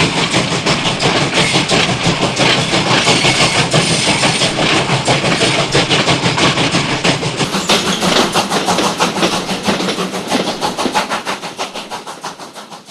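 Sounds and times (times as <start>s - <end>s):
steam locomotive chugging: 0.0s - 12.9s.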